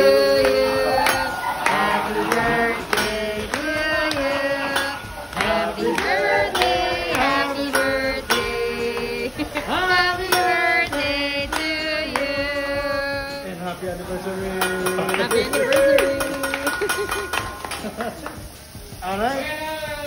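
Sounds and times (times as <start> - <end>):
music with singing: 0.0 - 20.0.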